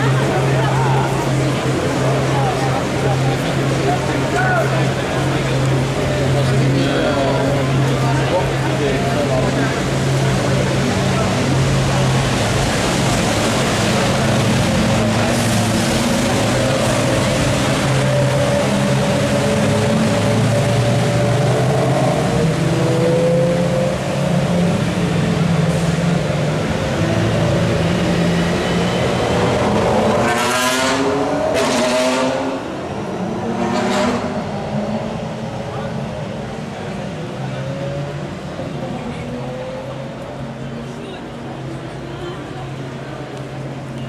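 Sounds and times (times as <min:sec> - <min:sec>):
race car engines at low revs: 0:00.0 - 0:44.0.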